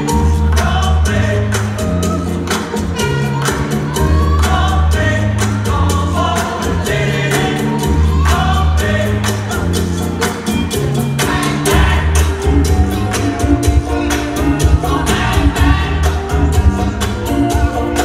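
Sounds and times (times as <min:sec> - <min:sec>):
latin dance music with vocals: 0:00.0 - 0:18.0.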